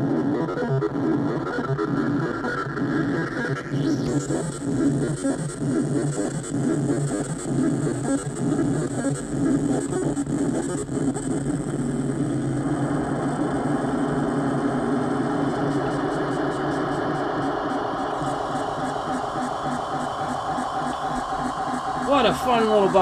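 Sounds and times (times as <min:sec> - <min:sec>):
synthesizer buzzing drone: 0:00.0 - 0:23.0.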